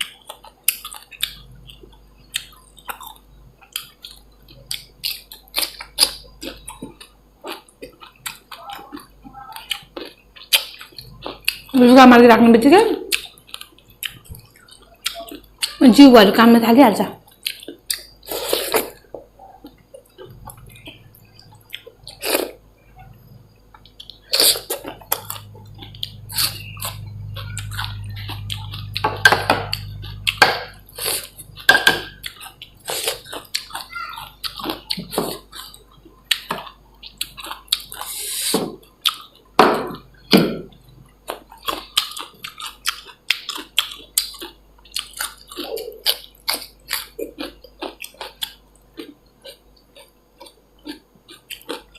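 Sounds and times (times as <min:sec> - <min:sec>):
wet chewing and lip smacks: 0:00.0 - 0:11.7, 0:13.1 - 0:15.8, 0:17.3 - 0:18.2, 0:18.9 - 0:22.6, 0:23.7 - 0:38.2, 0:41.2 - 0:51.9
low steady hum: 0:00.0 - 0:51.9.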